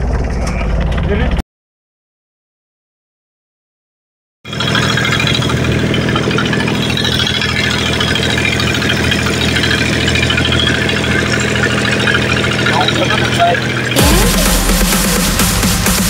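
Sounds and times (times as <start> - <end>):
boat engine running: 0.0 - 1.4, 4.5 - 16.0.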